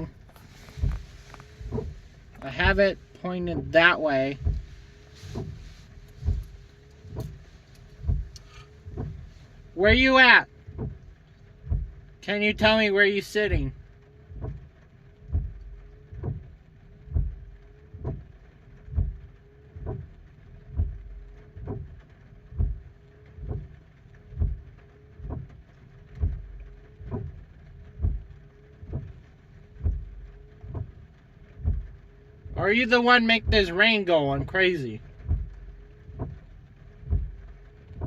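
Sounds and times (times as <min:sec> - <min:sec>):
regular low thumps: 0:00.0 - 0:12.2, 0:13.5 - 0:38.0
steady low hum: 0:00.0 - 0:38.0.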